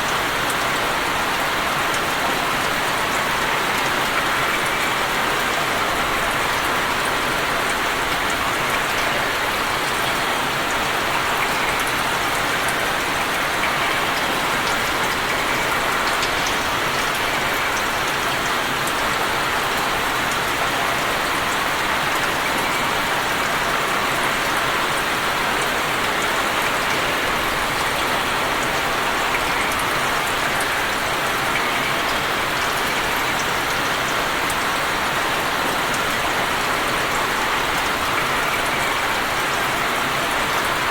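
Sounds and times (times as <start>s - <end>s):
rain falling on water: 0.0s - 40.9s.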